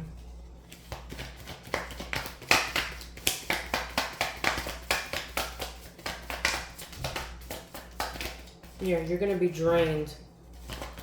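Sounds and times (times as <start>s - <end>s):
cards being shuffled: 0.6s - 9.0s, 10.4s - 11.0s.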